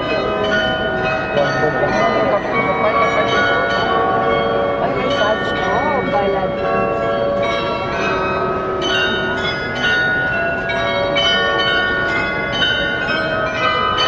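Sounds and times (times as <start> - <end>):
bells chiming a tune: 0.0 - 14.0.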